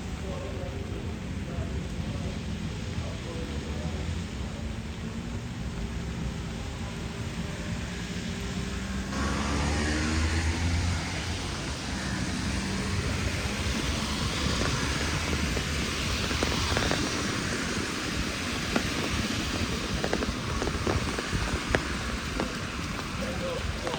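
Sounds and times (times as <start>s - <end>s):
heavy rain: 0.0s - 23.9s
vehicle passing: 0.1s - 23.9s.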